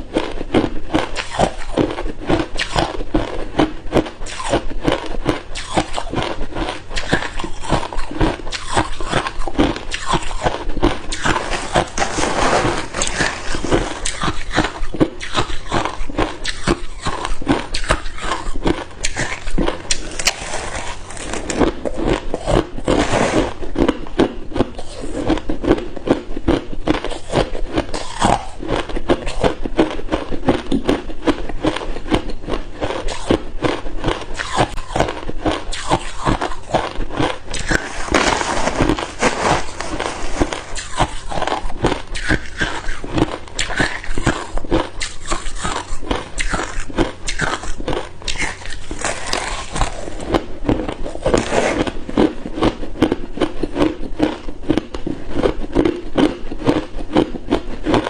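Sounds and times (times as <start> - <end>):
person chewing ice cubes: 0.0 - 58.0.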